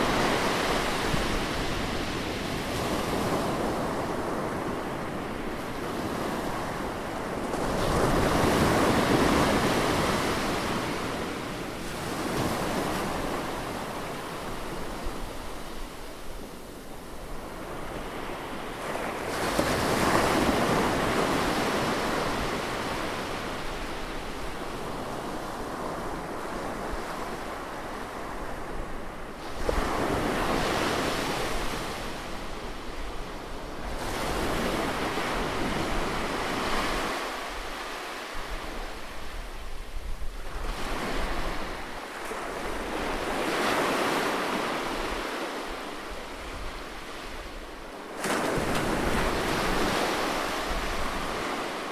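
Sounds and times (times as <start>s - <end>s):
waves washing in and receding: 0.0s - 51.9s.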